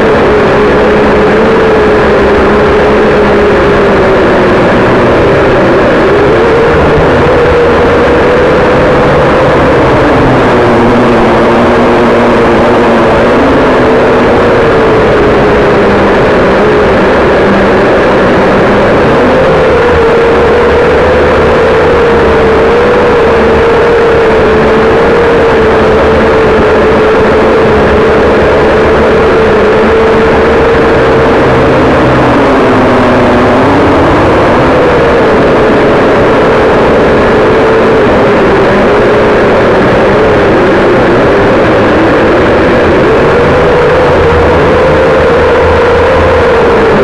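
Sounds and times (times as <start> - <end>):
drone propellers buzzing: 0.0 - 47.0.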